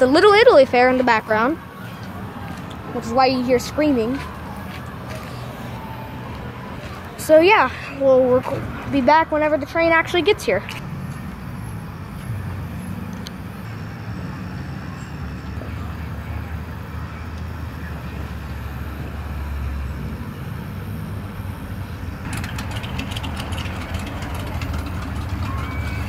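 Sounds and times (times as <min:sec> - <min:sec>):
low machinery hum: 0:00.0 - 0:26.0.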